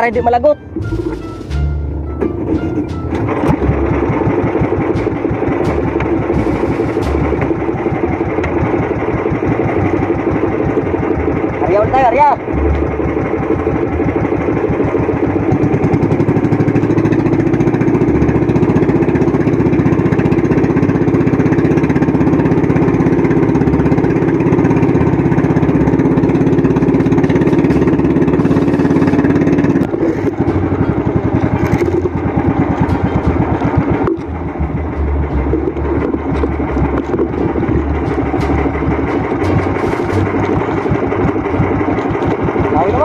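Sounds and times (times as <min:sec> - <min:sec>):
small boat engine running: 0:00.0 - 0:43.0.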